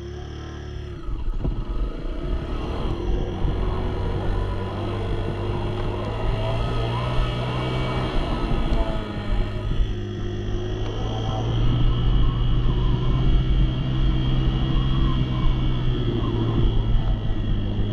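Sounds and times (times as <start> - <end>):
dirt bike engine running: 0.0 - 17.9.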